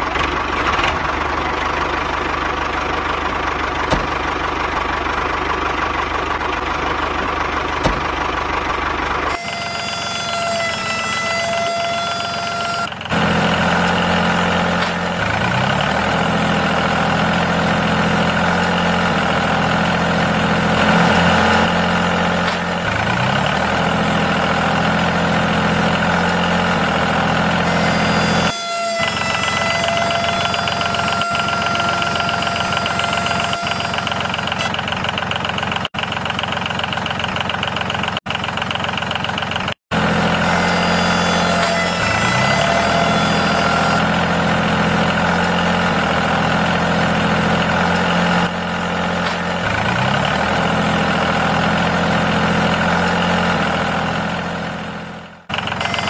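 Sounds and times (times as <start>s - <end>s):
steady engine-like drone: 0.0s - 36.9s, 37.5s - 56.0s.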